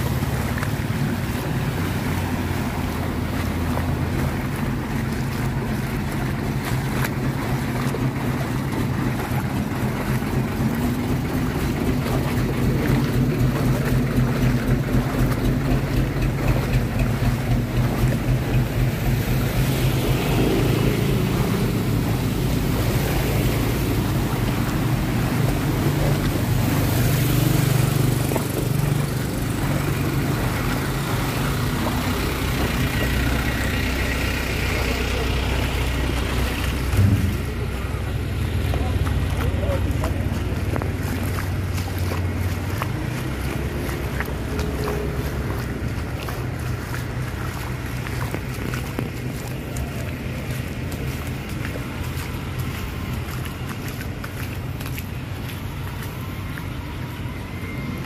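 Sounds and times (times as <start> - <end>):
vehicle engine humming: 0.0 - 58.0
water rushing: 0.0 - 58.0.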